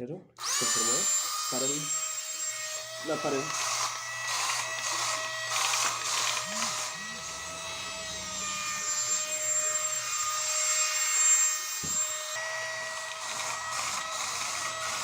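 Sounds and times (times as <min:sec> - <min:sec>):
small electric fan whining: 0:01.9 - 0:15.0.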